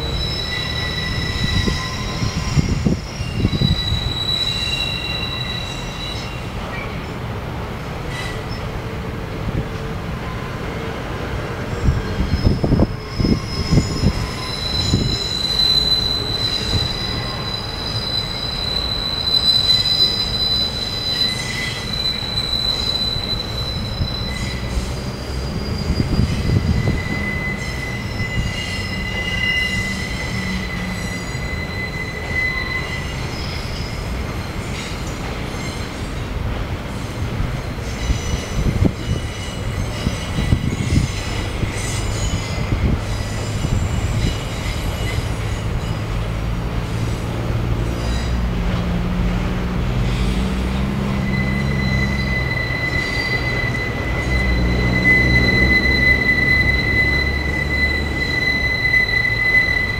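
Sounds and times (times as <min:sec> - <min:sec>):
steel wheels squealing: 0:00.0 - 0:07.2, 0:08.0 - 0:08.8, 0:10.2 - 0:59.9
train rumbling past: 0:00.0 - 0:59.9.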